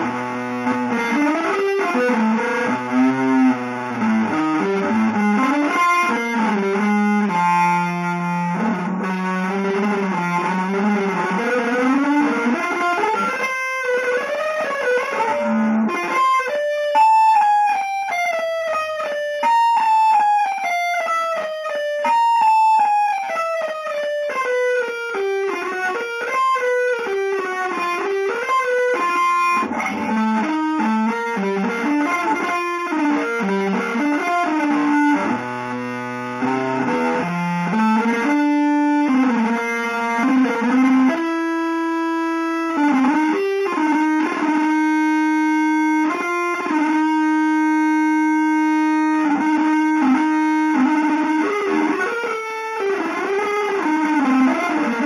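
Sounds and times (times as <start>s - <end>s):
electric guitar with effects: 0.0s - 55.0s.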